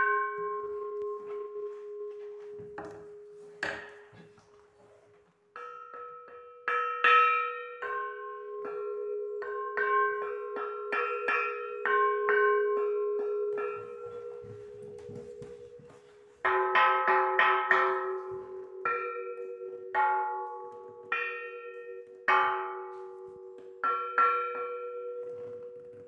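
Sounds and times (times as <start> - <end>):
metal bell ringing: 0.0 - 4.2, 5.6 - 22.9.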